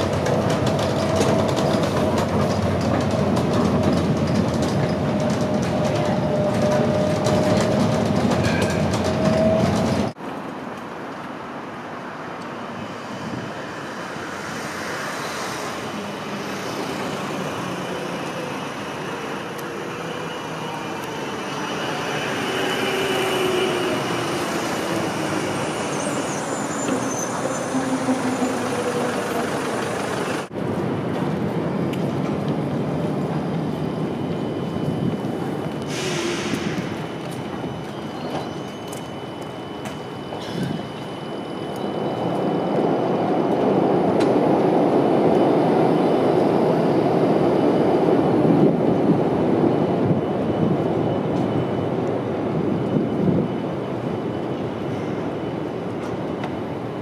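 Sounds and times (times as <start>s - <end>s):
tram passing on track: 0.0s - 57.0s
tram running rumble: 0.0s - 57.0s.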